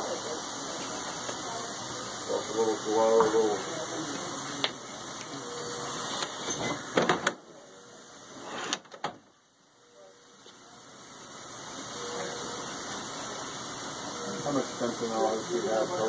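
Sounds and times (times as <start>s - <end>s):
room noise: 0.0s - 16.0s.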